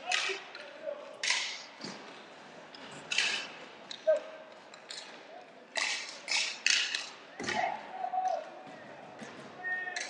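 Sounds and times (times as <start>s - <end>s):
hockey sticks clacking: 0.0s - 10.0s.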